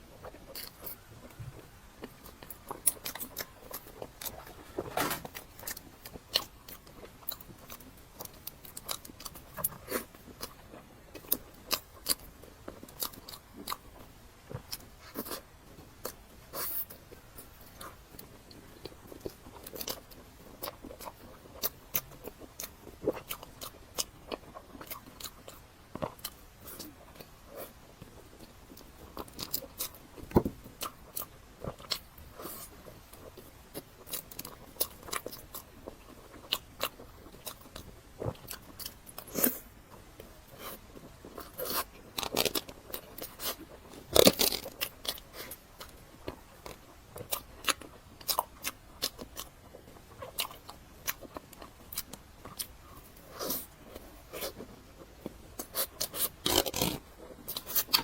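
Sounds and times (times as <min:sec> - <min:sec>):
person chewing cake: 0:00.0 - 0:58.0.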